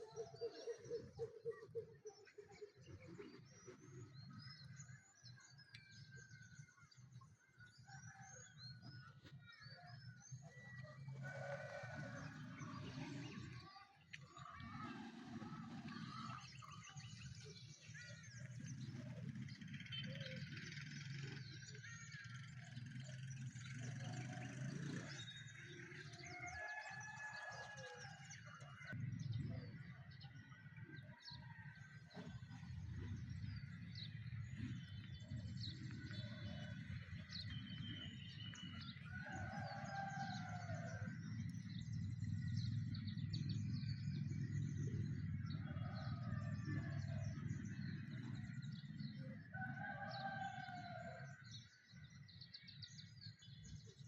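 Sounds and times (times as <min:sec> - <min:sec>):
birds singing and chirping: 0:00.0 - 0:54.0.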